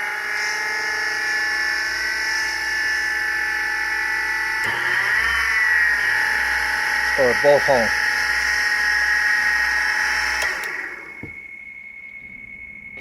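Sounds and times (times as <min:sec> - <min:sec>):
sharpening machine motor whining: 0:00.0 - 0:13.0.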